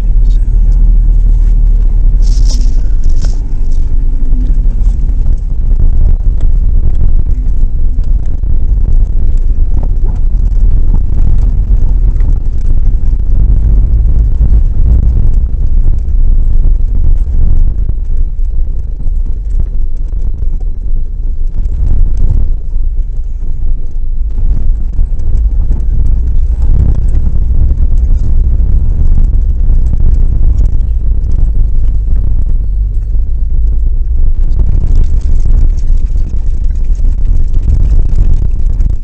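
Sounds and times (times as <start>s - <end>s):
vehicle rumbling on dirt track: 0.0s - 39.0s.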